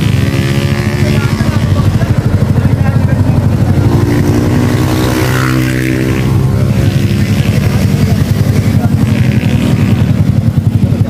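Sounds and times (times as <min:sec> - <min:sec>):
low rumble of engines: 0:00.0 - 0:11.0
motorcycle engine passing: 0:00.0 - 0:11.0.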